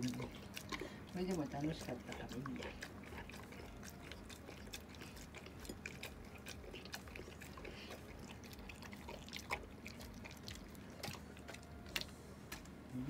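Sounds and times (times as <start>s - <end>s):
dog eating wet food from bowl: 0.0s - 13.0s.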